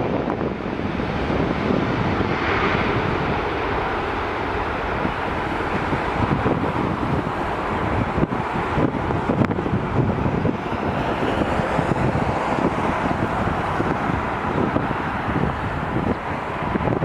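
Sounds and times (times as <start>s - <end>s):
airliner engine rushing: 0.0s - 17.0s
wind buffeting microphone: 0.0s - 17.0s.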